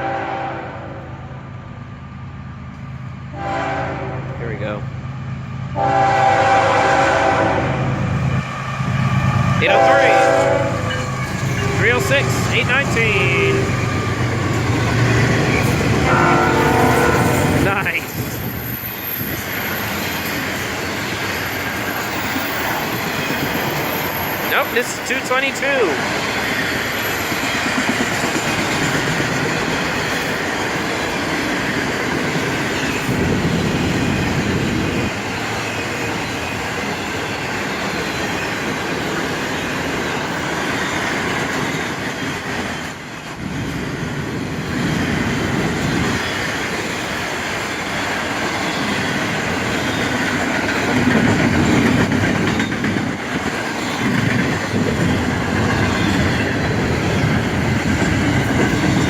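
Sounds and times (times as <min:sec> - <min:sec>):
freight train rumbling by: 0:00.0 - 0:59.0.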